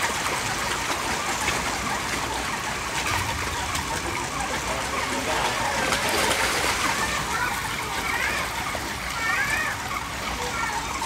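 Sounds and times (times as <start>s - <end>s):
fish splashing in pond water: 0.0s - 11.0s.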